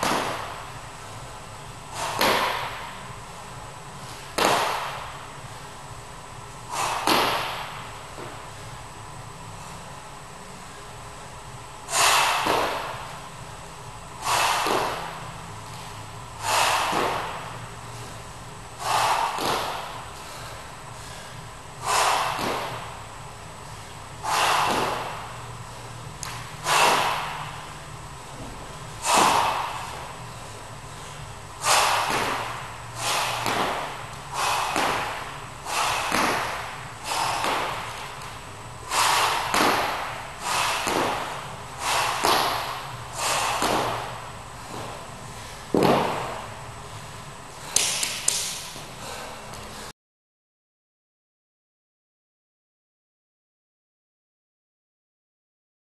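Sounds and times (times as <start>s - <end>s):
dumbbell workout bursts: 0.0s - 11.0s, 11.8s - 49.9s.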